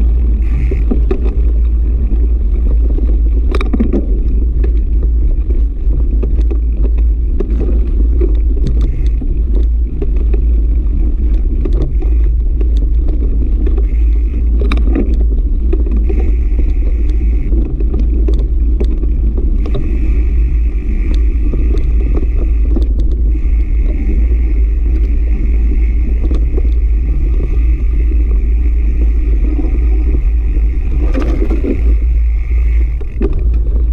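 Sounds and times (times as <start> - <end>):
high whir: 0.0 - 5.1, 6.4 - 33.9
bike rattles and knocks: 0.0 - 33.9
wind buffeting microphone: 0.0 - 33.9.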